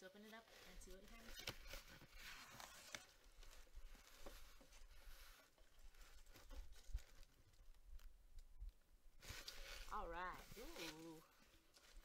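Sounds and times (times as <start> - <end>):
tissue paper rustling: 0.0 - 8.1, 9.2 - 12.0.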